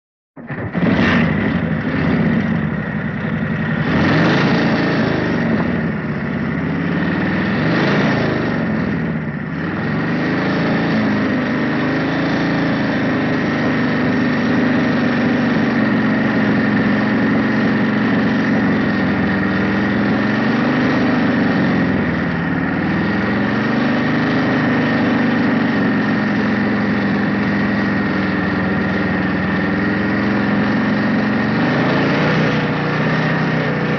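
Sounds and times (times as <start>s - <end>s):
motorcycle engine revving and idling: 0.4s - 33.9s.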